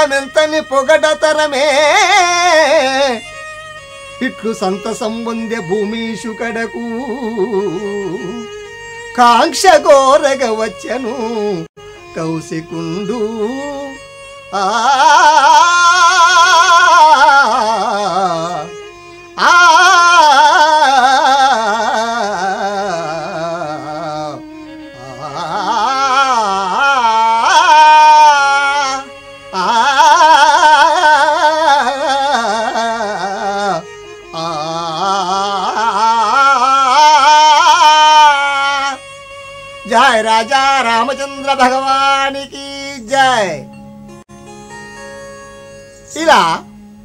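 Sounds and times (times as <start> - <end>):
man singing melismatic phrases: 0.0 - 43.8, 46.1 - 46.8.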